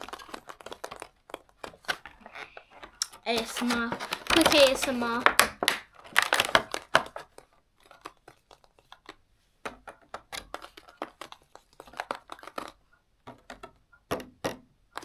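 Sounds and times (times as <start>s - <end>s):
packaging crinkling: 0.0s - 13.5s.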